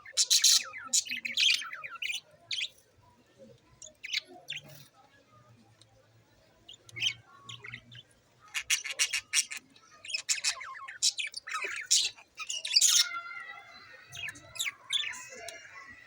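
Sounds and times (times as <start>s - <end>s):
budgerigars chirping and squawking: 0.0s - 2.8s, 3.8s - 4.9s, 6.7s - 16.0s.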